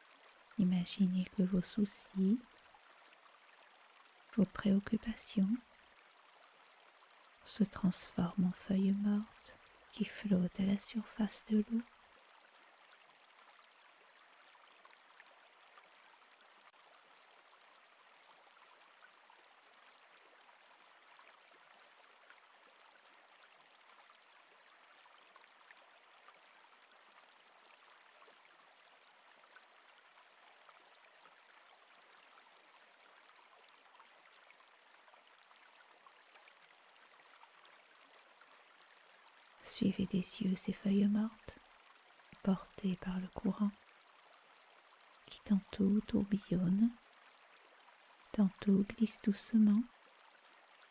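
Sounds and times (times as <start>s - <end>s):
stream running over rocks: 0.0s - 50.9s.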